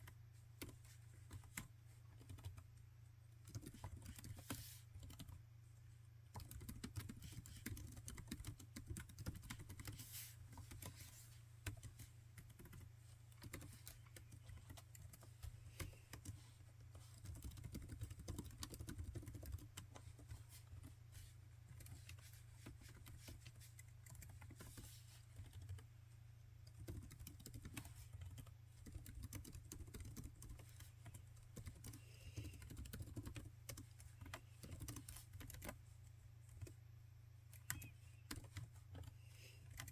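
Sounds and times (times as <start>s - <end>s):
laptop keyboard typing: 0.0s - 2.7s, 3.4s - 5.4s, 6.3s - 20.9s, 21.7s - 25.9s, 26.6s - 35.8s, 36.4s - 36.8s, 37.5s - 39.9s.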